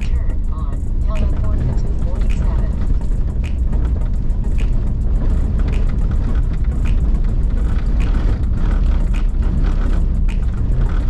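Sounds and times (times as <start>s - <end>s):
engine and tyres rumbling: 0.0s - 11.0s
light rattles: 0.0s - 11.0s.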